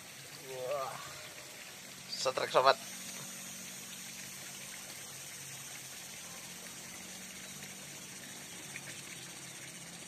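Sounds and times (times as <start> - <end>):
even hiss: 0.0 - 10.0.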